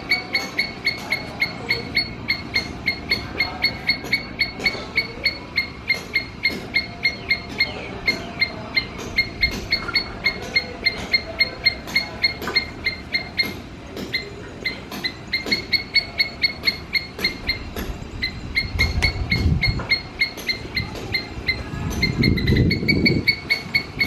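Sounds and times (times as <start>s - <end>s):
squirrel chirping: 0.0s - 24.0s.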